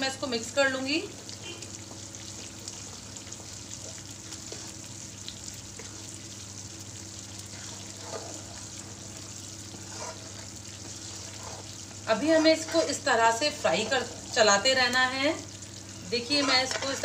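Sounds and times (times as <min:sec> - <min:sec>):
flour frying and sizzling: 0:00.0 - 0:17.0.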